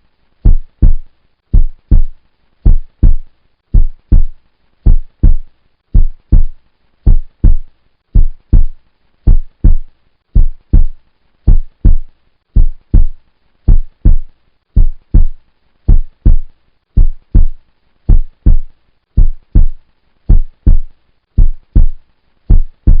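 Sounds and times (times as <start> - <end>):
heartbeat thumps: 0.4 - 23.0.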